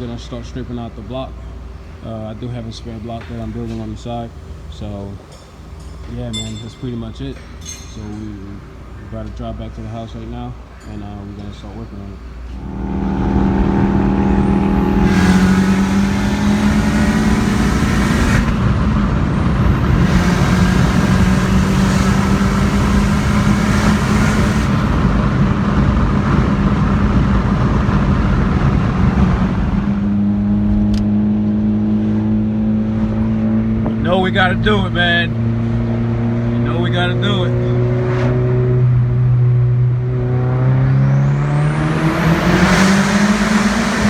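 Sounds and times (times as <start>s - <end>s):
car engine drone: 0.0s - 44.0s
road and exhaust noise: 0.0s - 44.0s.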